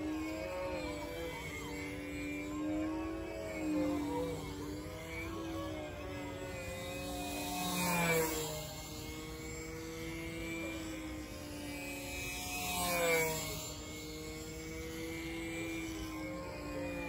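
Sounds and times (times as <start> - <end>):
model plane motor droning: 0.0 - 17.0.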